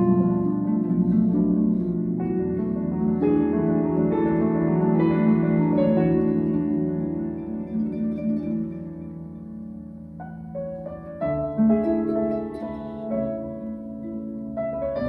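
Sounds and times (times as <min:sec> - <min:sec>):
grand piano: 0:00.0 - 0:15.0
harp plucked notes: 0:00.0 - 0:15.0.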